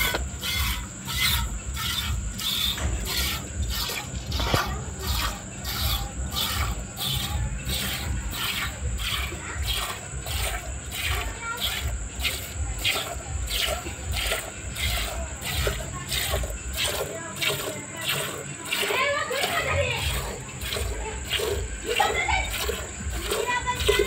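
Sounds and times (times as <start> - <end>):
milk squirting into steel bowl: 0.0 - 24.0.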